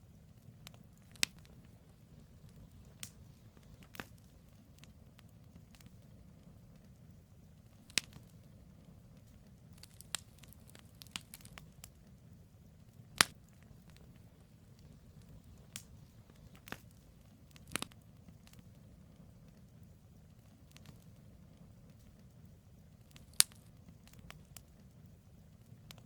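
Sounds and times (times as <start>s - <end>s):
campfire crackling and popping: 0.0s - 26.0s
low steady rumble: 0.0s - 26.0s.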